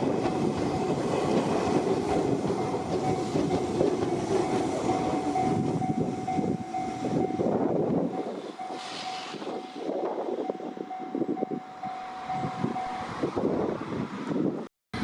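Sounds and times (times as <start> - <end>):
crossing warning bell ringing: 0.0 - 13.4
train wheels on rails: 0.0 - 15.0.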